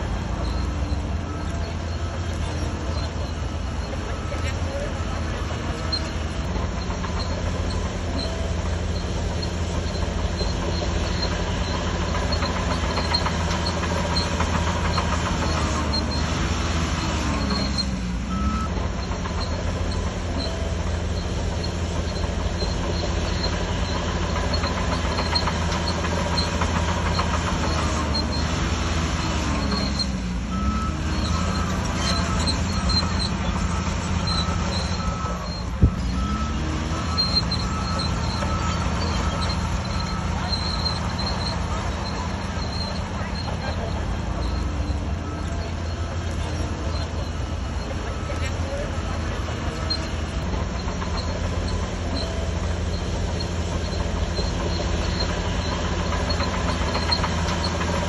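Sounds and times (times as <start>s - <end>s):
bulldozer diesel engine running: 0.0s - 58.0s
steel tracks clanking: 0.0s - 58.0s.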